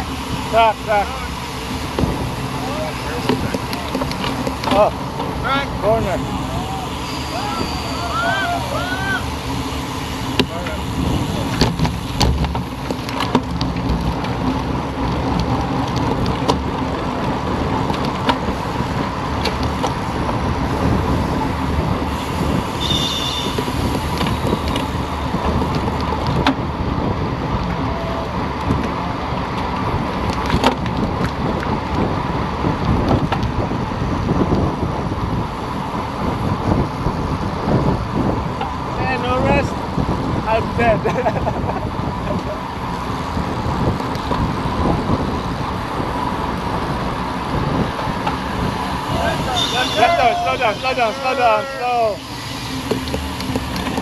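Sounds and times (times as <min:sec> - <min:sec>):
tyre and road noise: 0:00.0 - 0:54.0
wind rushing over microphone: 0:00.0 - 0:54.0.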